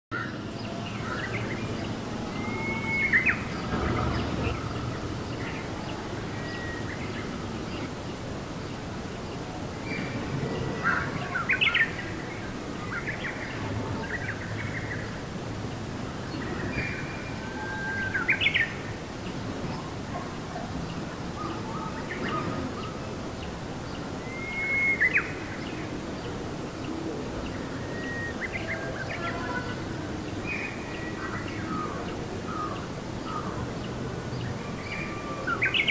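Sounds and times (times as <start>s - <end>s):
birds chirping: 0.1s - 35.9s.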